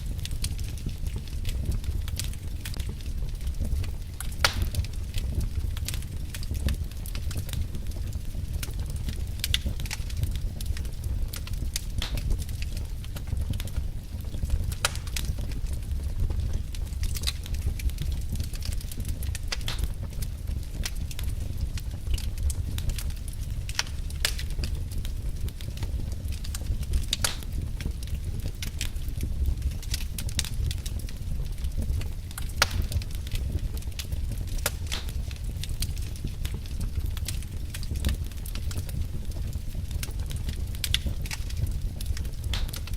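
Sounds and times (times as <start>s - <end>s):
flame rumble: 0.0s - 42.9s
wood fire crackling and popping: 0.0s - 42.9s.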